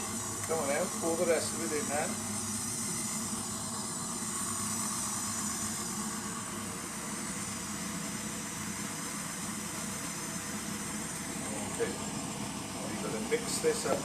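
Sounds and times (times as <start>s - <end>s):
steady mechanical hum with hiss: 0.0s - 14.0s.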